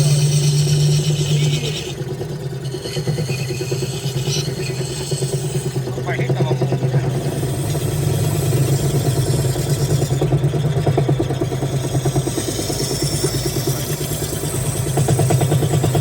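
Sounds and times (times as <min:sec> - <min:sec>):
rhythmic lathe chatter: 0:00.0 - 0:16.0
wood lathe motor hum: 0:00.0 - 0:16.0.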